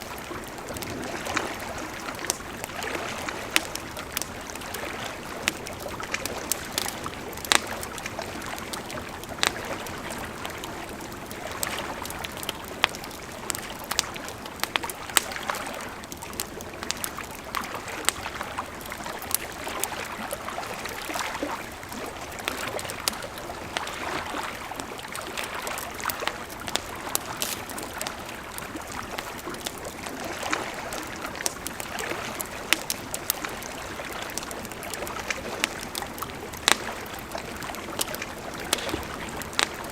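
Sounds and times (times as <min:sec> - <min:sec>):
campfire crackling and popping: 0:00.0 - 0:39.9
flowing river: 0:00.0 - 0:39.9.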